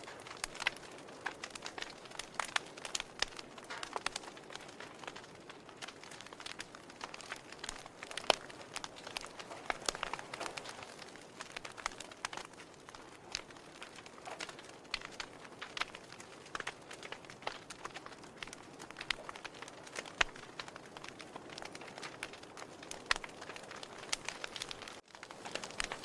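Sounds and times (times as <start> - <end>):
soft steady hiss: 0.0 - 26.0
wood fire crackling: 0.0 - 26.0.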